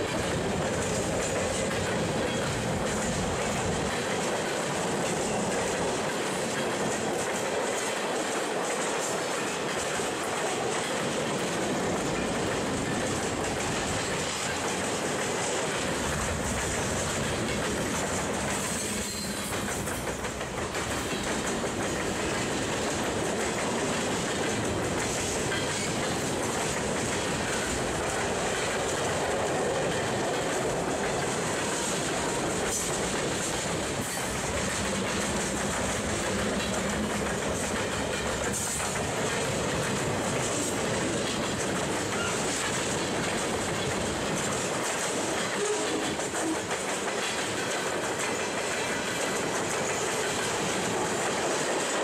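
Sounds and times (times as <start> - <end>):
steel wheels running over rails: 0.0 - 52.0.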